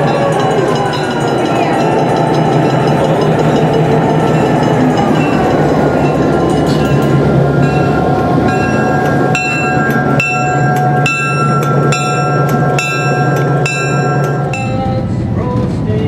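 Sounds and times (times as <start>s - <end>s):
diesel locomotive engine running: 0.0s - 16.0s
train wheels clicking over rail joints: 0.0s - 16.0s.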